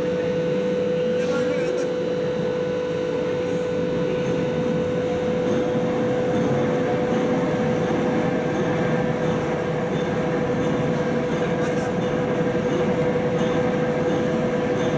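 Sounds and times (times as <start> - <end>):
constant humming tone: 0.0 - 14.9
heavy machinery running: 0.0 - 14.9.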